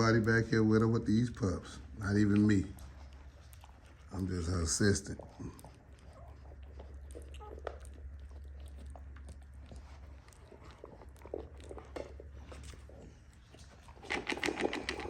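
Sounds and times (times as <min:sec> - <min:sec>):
dog chewing kibble: 0:00.0 - 0:15.0.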